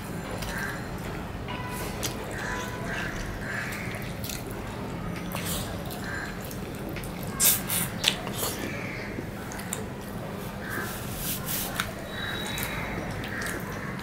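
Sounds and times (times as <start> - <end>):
chewing: 1.8 - 14.0.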